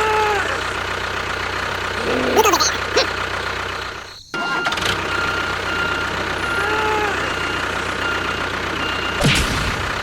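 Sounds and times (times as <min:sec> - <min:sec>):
small vehicle engine running: 0:00.0 - 0:09.2.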